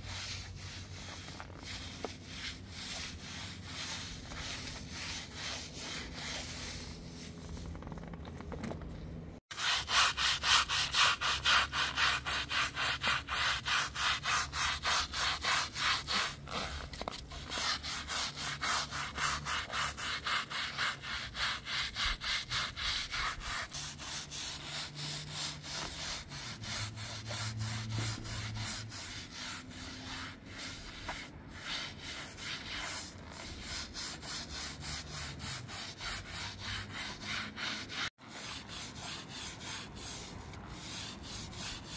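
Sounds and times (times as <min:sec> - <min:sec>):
broom swishing over carpet: 0:00.0 - 0:07.8, 0:09.4 - 0:41.9
hand brush scrubbing wet carpet: 0:00.0 - 0:07.8, 0:09.4 - 0:41.9.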